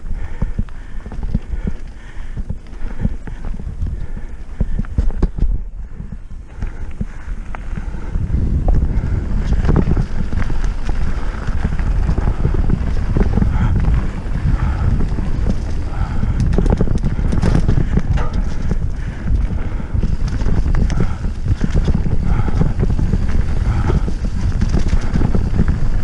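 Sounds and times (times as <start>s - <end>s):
bike rattling and clattering: 0.0s - 26.0s
bike tyres rumbling on rocks: 0.0s - 26.0s
wind buffeting microphone: 0.0s - 26.0s.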